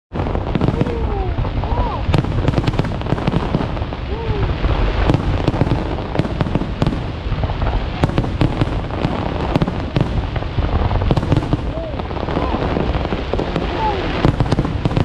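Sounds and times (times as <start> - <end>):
fireworks booming: 0.1 - 15.0
fireworks cracking: 0.1 - 15.0.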